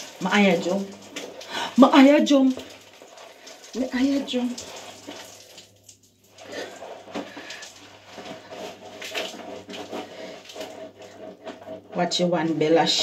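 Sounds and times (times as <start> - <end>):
soapy skin being scrubbed: 0.0 - 12.2.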